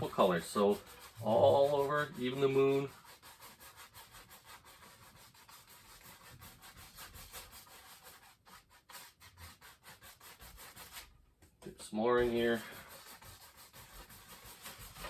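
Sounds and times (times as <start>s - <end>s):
paintbrush scrubbing canvas: 0.0s - 11.2s, 12.0s - 15.0s.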